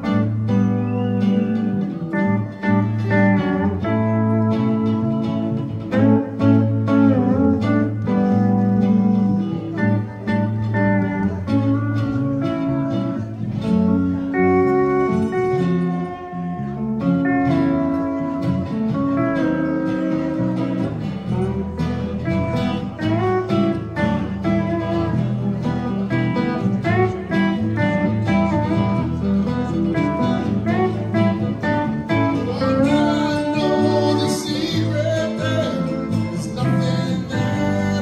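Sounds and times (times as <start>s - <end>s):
bass: 0.0s - 38.0s
pedal steel guitar gliding notes: 0.0s - 38.0s
plucked guitars: 0.0s - 38.0s.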